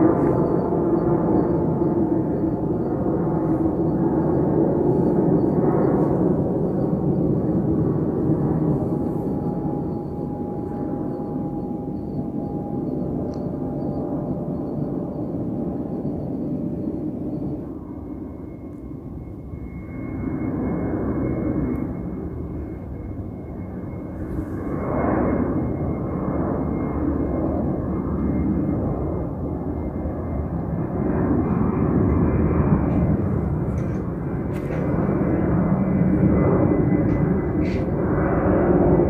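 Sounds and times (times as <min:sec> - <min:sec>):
airliner engine rumble: 0:00.0 - 0:39.0
thin high whine: 0:00.0 - 0:39.0.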